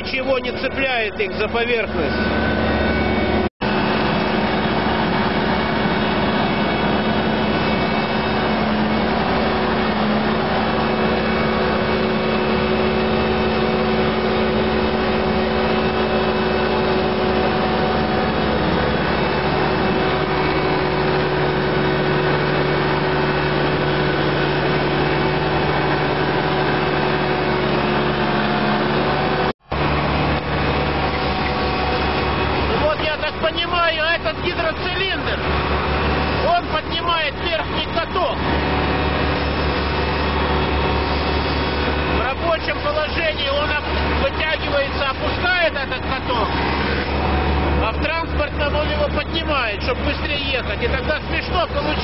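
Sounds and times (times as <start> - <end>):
heavy diesel engines running: 0.0 - 52.0.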